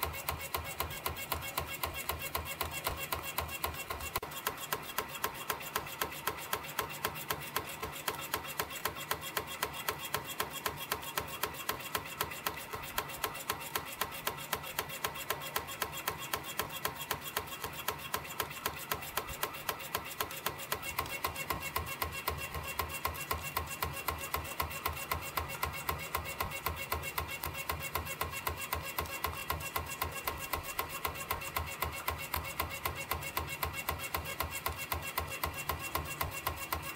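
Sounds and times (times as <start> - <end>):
spring coiling machine clicking: 0.0 - 36.9.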